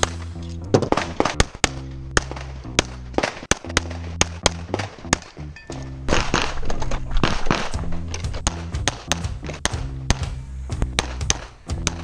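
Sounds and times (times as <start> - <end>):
pistol shots: 0.0 - 5.3, 6.1 - 7.8, 8.4 - 12.0
background music with bass notes: 0.0 - 12.0.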